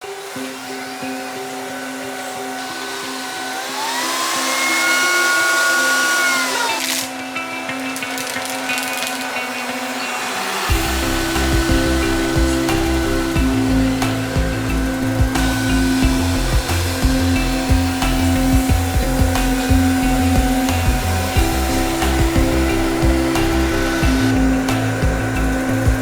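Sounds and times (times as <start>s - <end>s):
robot vacuum motor whine: 0.0s - 26.0s.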